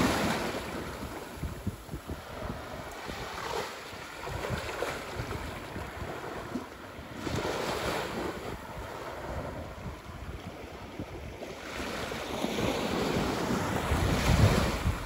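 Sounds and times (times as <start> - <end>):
small waves washing over sand: 0.0 - 15.0
wind buffeting microphone: 0.0 - 15.0.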